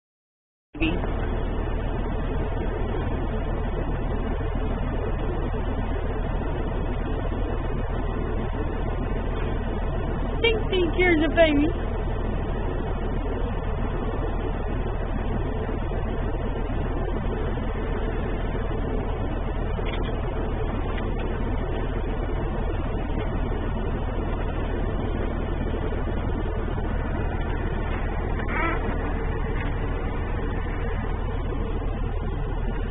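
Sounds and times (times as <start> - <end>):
machine humming: 0.8 - 32.9.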